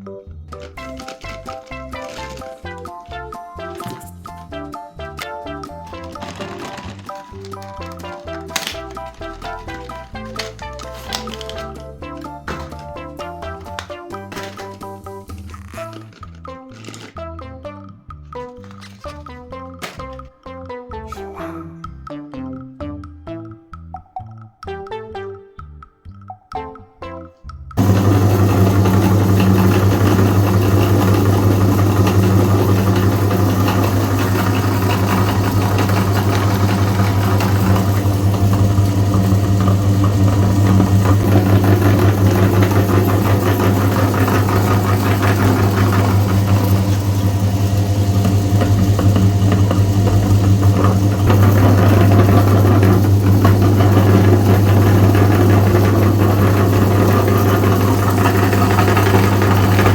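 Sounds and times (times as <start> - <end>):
electric meat grinder grinding: 0.5 - 17.2, 27.8 - 59.9.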